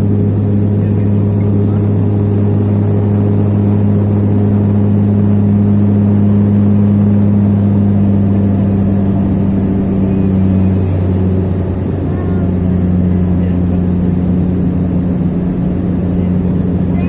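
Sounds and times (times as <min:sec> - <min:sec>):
airliner engine drone in cabin: 0:00.0 - 0:17.0.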